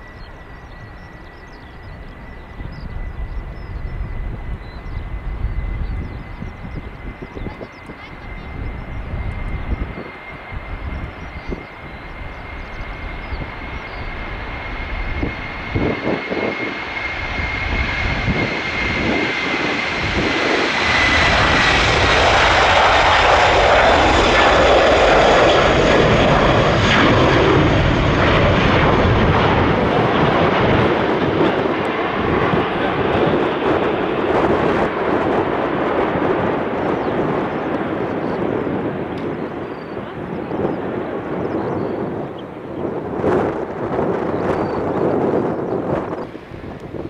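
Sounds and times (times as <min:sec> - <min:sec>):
jet taking off: 0:00.0 - 0:47.0.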